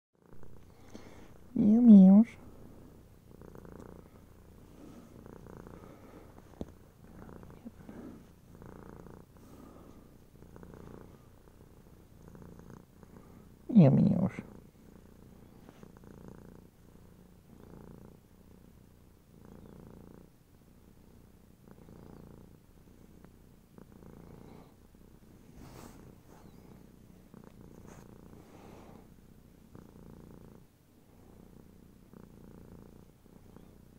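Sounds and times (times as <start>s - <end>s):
kitten purring: 0.2s - 33.9s.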